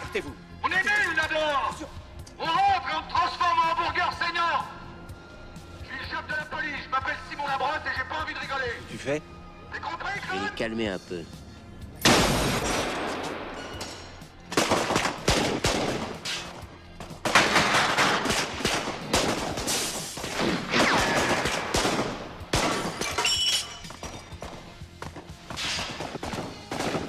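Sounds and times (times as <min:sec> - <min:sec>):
music: 0:00.0 - 0:27.0.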